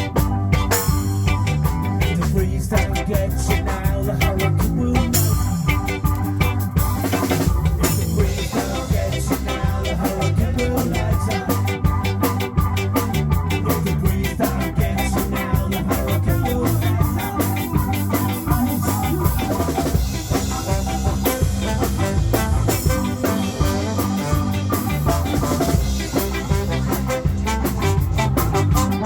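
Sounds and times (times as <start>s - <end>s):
live band playing: 0.0s - 29.0s.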